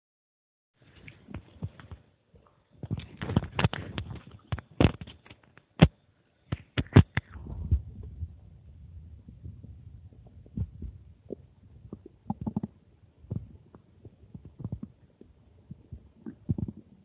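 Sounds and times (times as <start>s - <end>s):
stomach gurgling: 0.9s - 17.0s.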